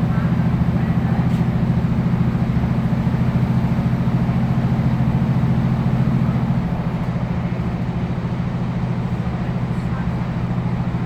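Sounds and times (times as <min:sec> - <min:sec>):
train diesel engine droning: 0:00.0 - 0:11.0.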